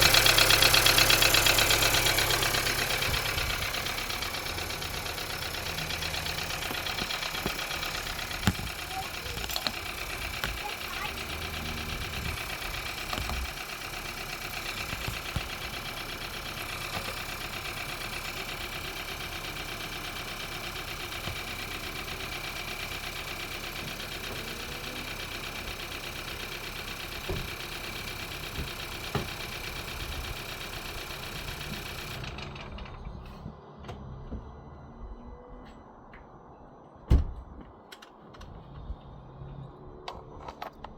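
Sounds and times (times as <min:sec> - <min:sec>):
rapid regular engine knocking: 0:00.0 - 0:33.2
car engine idling: 0:00.0 - 0:40.9.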